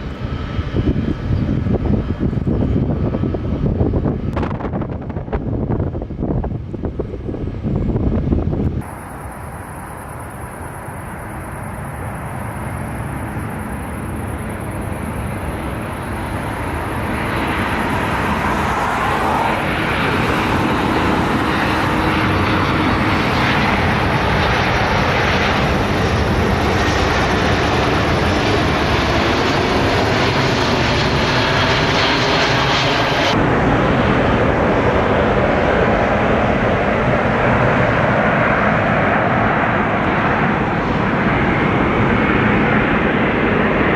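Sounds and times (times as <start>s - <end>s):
airliner jet engines roaring: 0.0s - 43.9s.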